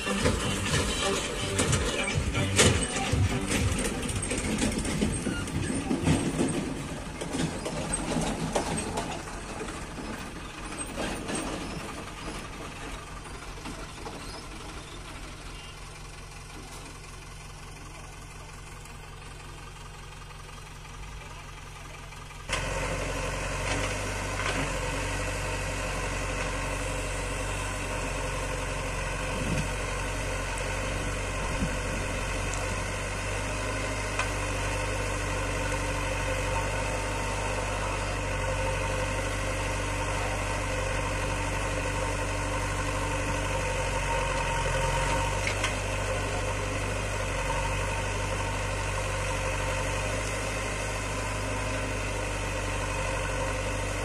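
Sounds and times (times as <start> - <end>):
diesel engines running: 0.0 - 54.0
knocks and rumble of soil loading: 0.0 - 54.0.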